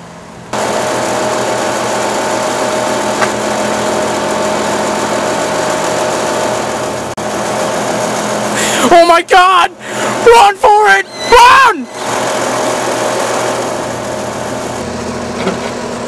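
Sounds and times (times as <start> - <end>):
loud motor drone: 0.5 - 16.0.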